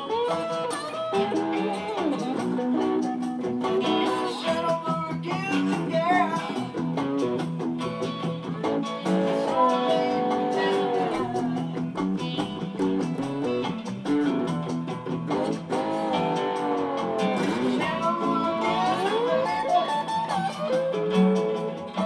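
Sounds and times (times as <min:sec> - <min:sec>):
plucked acoustic guitar: 0:00.0 - 0:22.0
slide guitar notes: 0:00.0 - 0:22.0.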